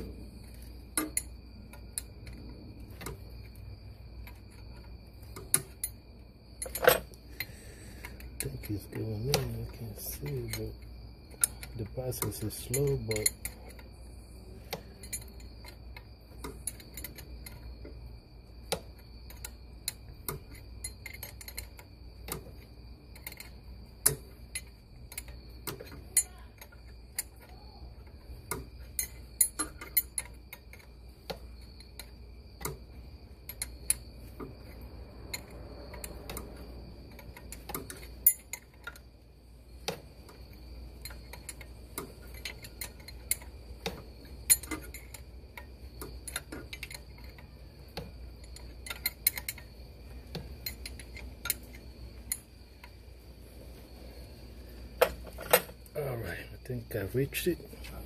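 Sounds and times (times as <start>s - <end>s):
faint high-pitched whine: 0.0s - 58.0s.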